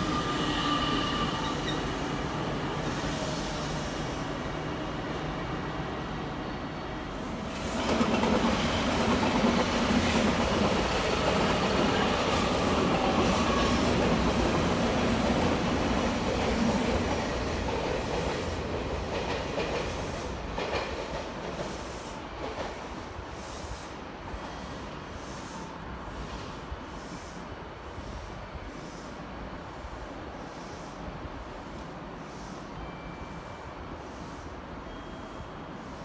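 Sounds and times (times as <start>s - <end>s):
electric train rumbling: 0.0s - 36.0s.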